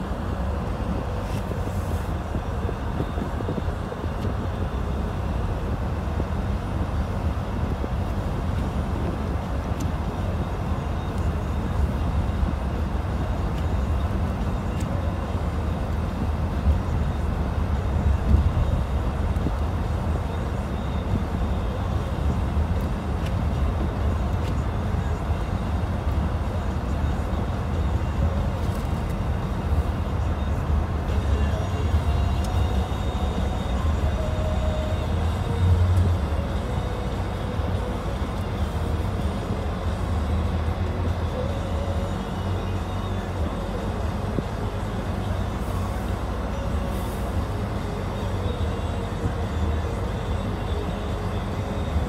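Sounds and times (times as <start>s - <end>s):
car tyres and engine rumble: 0.0s - 52.0s.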